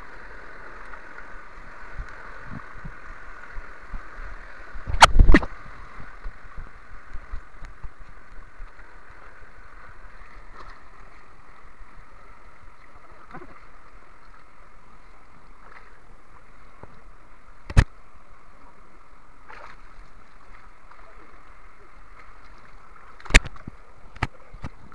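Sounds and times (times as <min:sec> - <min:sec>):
river water running: 0:00.0 - 0:24.9.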